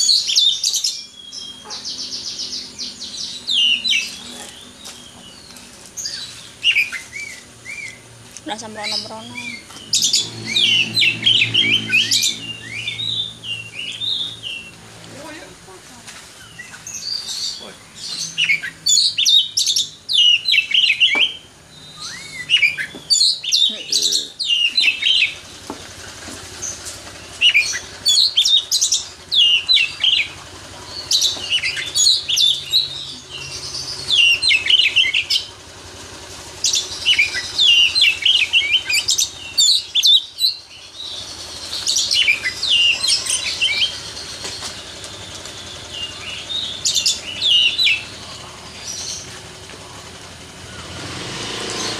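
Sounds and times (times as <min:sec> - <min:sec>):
bird singing whistles and trills: 0:00.0 - 0:08.0, 0:09.3 - 0:14.8, 0:16.4 - 0:25.4, 0:26.6 - 0:35.5, 0:36.6 - 0:48.2.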